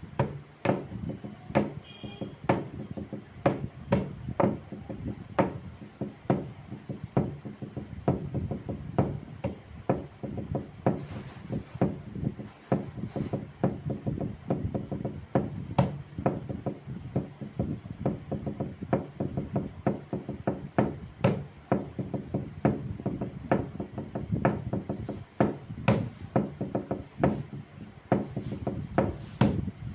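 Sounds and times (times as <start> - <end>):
wood knocking and tapping: 0.1 - 29.8.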